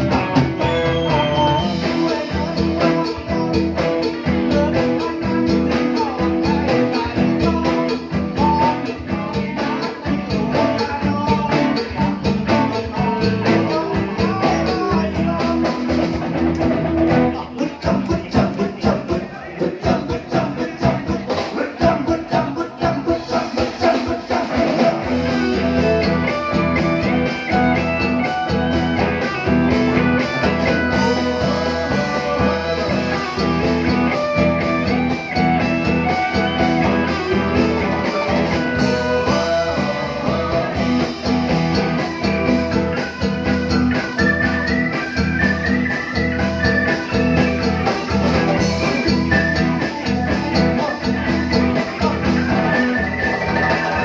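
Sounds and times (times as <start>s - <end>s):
live band music: 0.0s - 54.0s.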